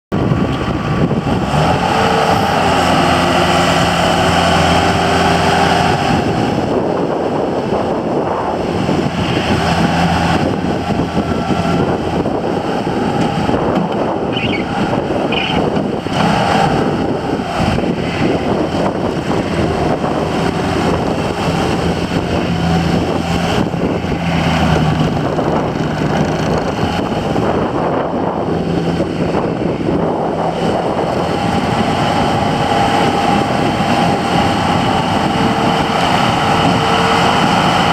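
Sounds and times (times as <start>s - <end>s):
loader diesel engine droning: 0.1s - 37.9s.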